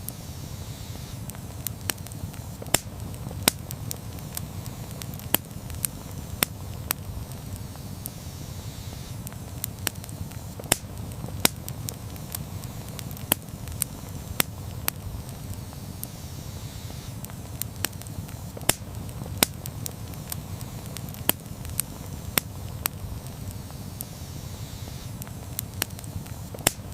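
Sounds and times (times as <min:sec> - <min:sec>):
campfire rumbling: 0:00.0 - 0:26.9
fire crackles and pops: 0:00.0 - 0:26.9.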